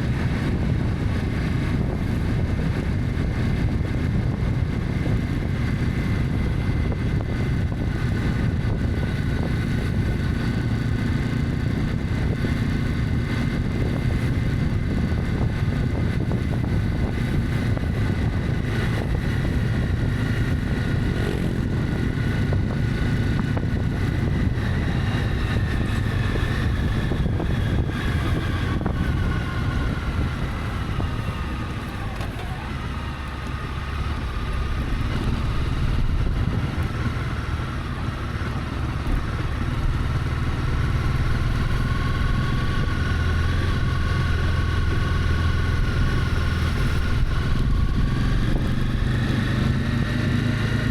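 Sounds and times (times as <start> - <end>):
motorcycle engine cruising: 0.0 - 50.9
wind rushing over microphone: 0.0 - 50.9.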